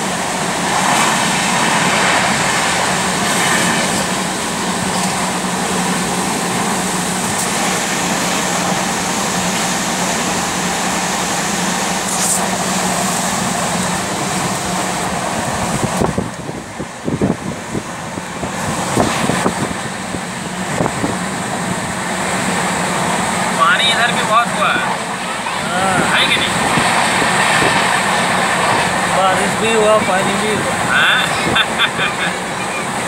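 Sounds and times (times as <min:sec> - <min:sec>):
wheels on rails rushing: 0:00.0 - 0:33.0.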